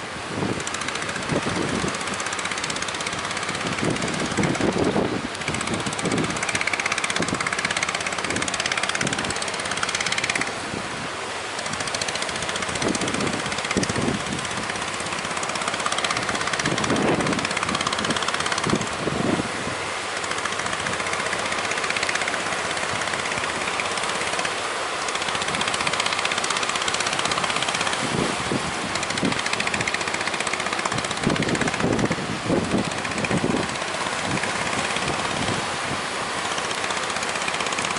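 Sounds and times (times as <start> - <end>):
wind noise: 0.0 - 24.4, 25.4 - 36.6
speedboat engine: 0.0 - 37.9
hull thumping on waves: 0.2 - 37.9.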